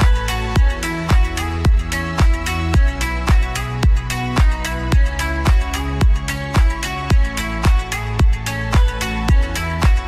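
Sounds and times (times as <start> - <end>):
kick drum beat: 0.0 - 10.0
synth chords: 0.0 - 10.0.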